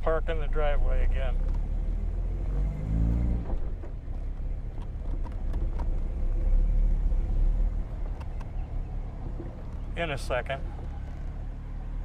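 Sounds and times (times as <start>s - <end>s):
car exhaust rumble: 0.0s - 12.0s.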